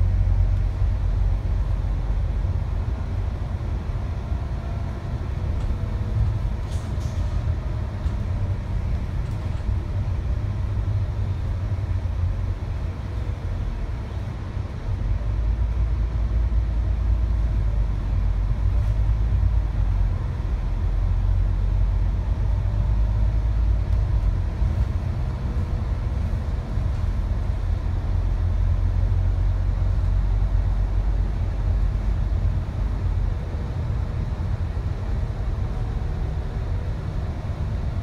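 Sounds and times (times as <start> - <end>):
bus engine rumble: 0.0 - 38.0
road noise: 0.0 - 38.0.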